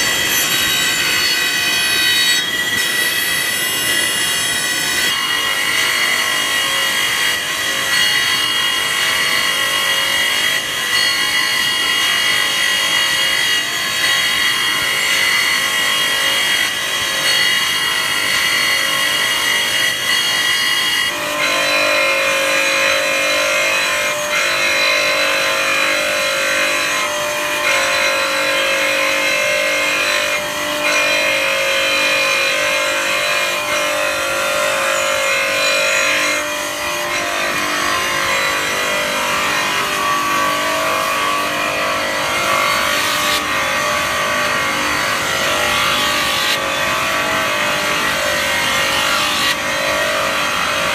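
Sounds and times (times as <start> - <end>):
tile grinding machine whining: 0.0 - 50.9.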